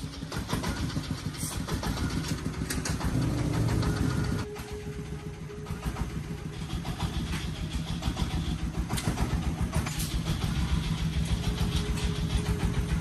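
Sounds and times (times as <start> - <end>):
engine running with fast pulsing: 0.0 - 13.0.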